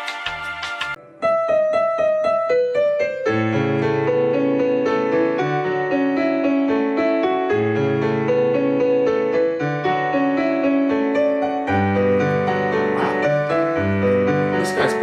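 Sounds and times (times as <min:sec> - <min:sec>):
piano playing: 0:00.9 - 0:15.0.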